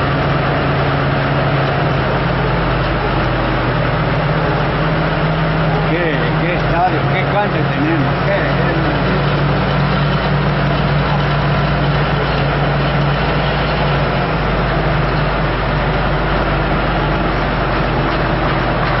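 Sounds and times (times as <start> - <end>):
engine idling: 0.0 - 19.0
outdoor noise: 0.0 - 19.0.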